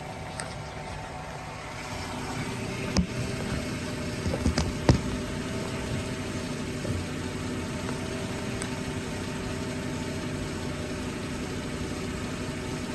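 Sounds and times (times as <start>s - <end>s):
suspension popping: 0.0s - 10.6s
vehicle engine drone: 0.0s - 12.9s.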